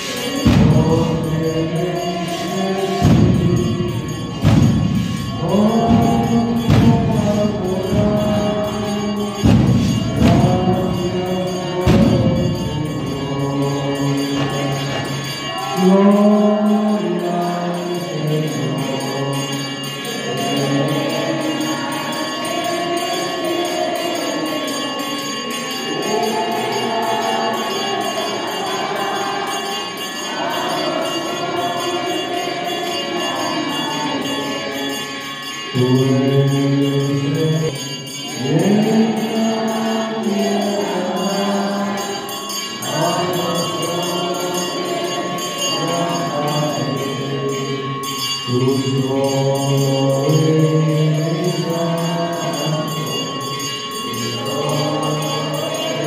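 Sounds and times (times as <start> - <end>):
group singing a hymn: 0.0 - 56.0
jingling percussion: 0.0 - 56.0.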